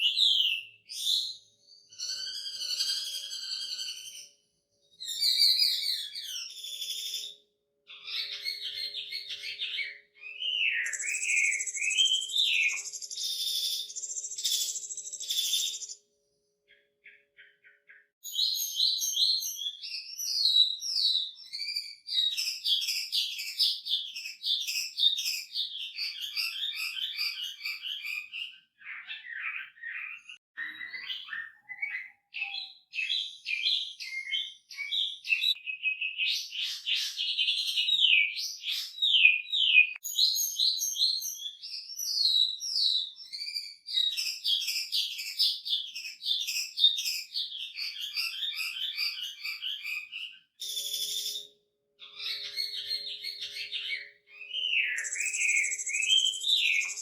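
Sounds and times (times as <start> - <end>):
songbird whistling song: 0.0 - 57.0.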